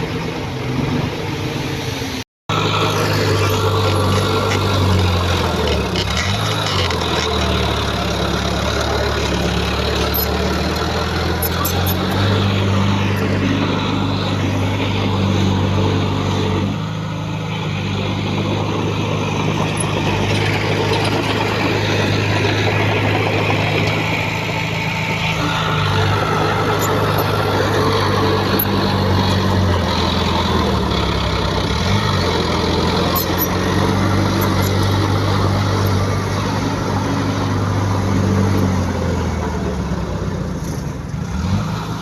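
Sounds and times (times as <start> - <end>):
diesel earthmoving machinery running: 0.0 - 42.0.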